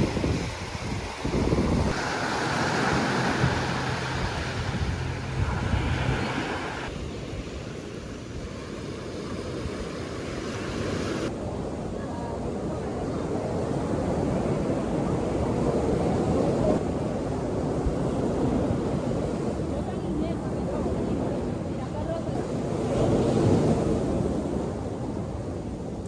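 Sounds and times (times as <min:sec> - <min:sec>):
surf washing on beach: 0:00.0 - 0:26.0
wind buffeting microphone: 0:00.0 - 0:26.0.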